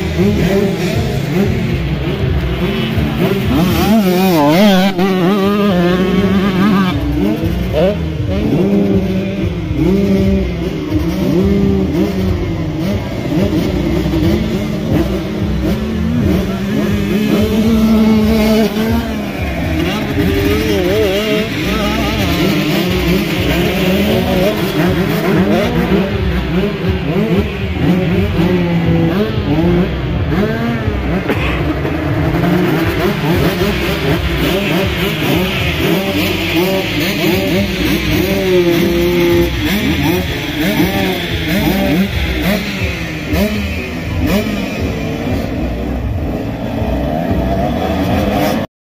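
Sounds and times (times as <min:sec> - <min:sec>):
motocross bike engines revving: 0:00.0 - 0:48.7.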